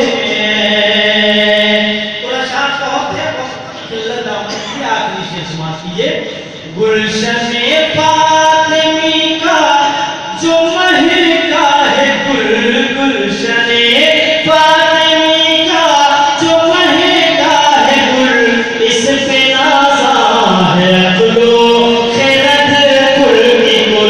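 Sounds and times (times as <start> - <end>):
man singing devotional song: 0.0 - 4.8, 5.9 - 24.0.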